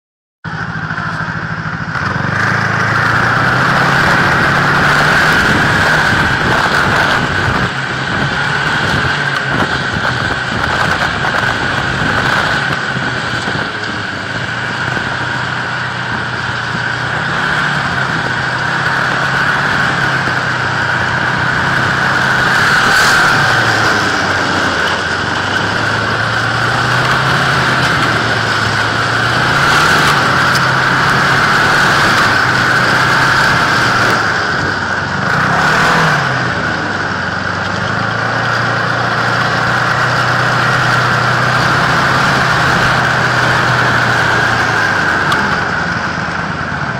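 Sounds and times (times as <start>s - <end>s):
steady high whine: 0.4s - 46.9s
snowmobile engine revving: 0.5s - 46.9s.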